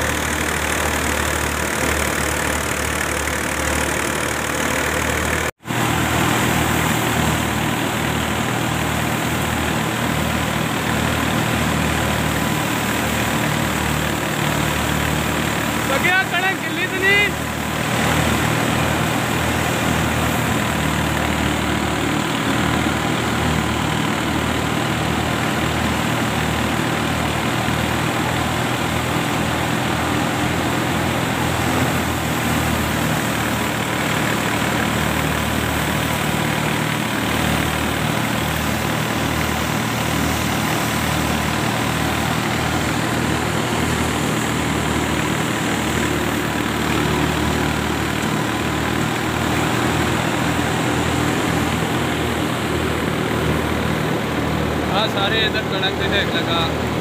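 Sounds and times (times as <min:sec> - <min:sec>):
thresher machine running: 0:00.0 - 0:57.0.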